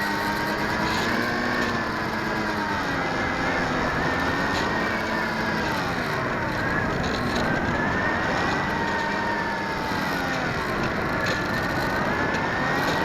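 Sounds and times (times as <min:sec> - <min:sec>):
model airplane motor whining: 0:00.0 - 0:13.0.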